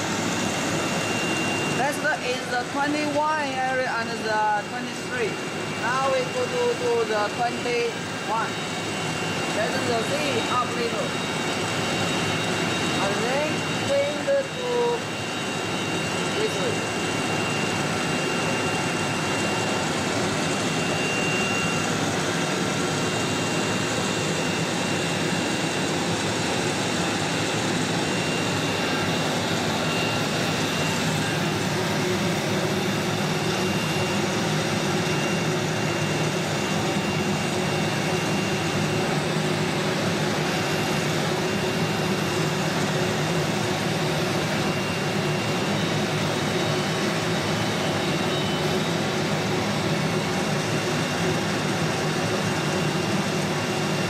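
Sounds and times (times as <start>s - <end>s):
cnc router whirring hum: 0.0s - 54.0s
faint high whine: 0.0s - 54.0s.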